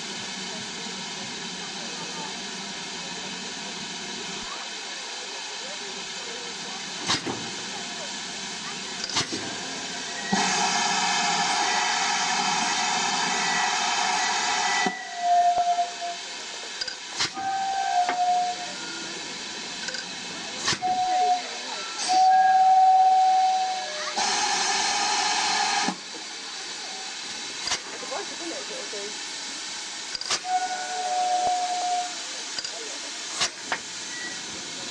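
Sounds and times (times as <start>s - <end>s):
steam locomotive hissing steam: 0.0s - 34.9s.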